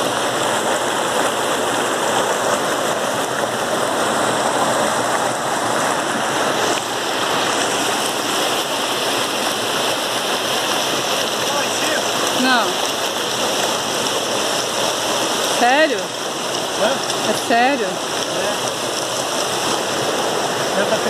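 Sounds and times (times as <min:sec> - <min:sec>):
water rushing over rocks: 0:00.0 - 0:21.0.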